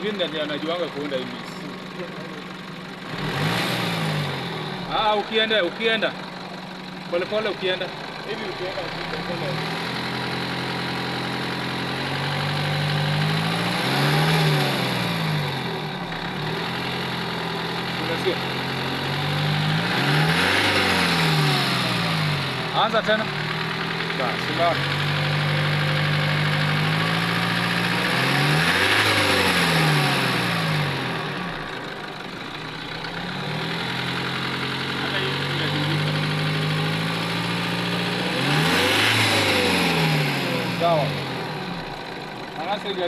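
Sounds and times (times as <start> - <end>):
car engine idling and revving: 0.0 - 43.0.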